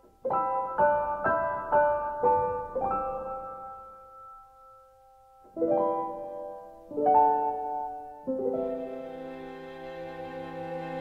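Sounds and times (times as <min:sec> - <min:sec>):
piano notes and chords: 0:00.0 - 0:11.0.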